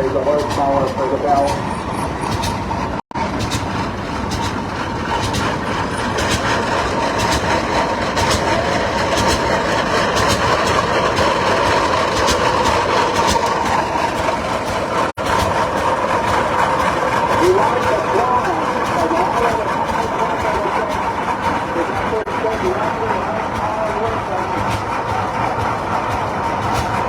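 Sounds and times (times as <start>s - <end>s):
old tractor engine running: 0.0s - 27.0s.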